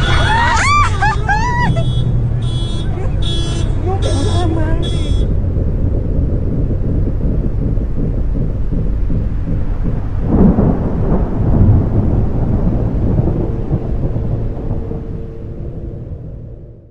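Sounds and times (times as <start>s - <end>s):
deep rumble: 0.0s - 16.9s.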